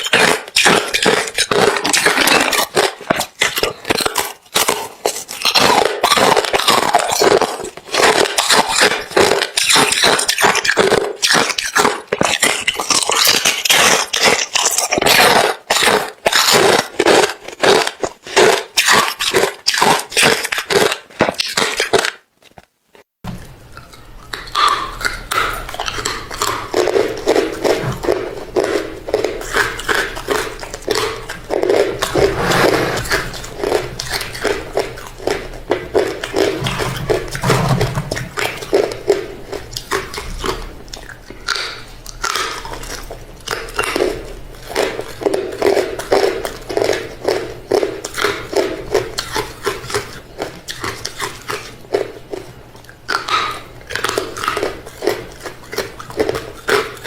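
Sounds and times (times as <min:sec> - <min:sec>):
chewing crunchy ice: 0:00.0 - 0:57.0.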